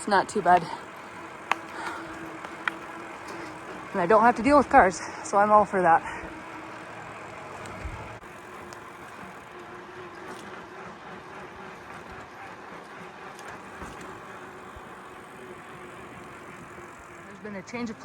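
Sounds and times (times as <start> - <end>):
bicycle rolling on trail: 0.0 - 18.0.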